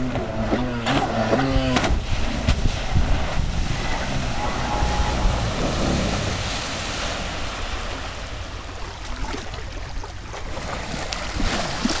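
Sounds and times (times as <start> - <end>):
water rushing: 0.0 - 12.0
wind buffeting microphone: 1.4 - 12.0.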